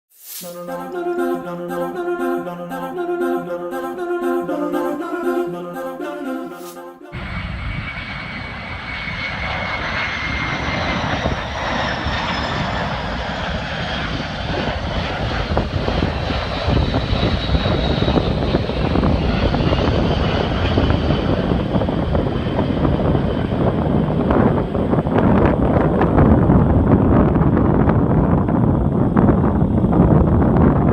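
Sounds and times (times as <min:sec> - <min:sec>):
high turbine whine: 0:00.2 - 0:30.9
jet engines rushing: 0:00.2 - 0:30.9.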